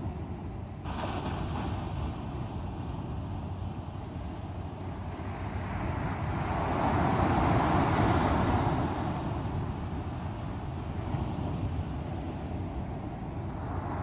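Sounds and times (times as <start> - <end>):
sea waves rolling onto shore: 0.0 - 14.0.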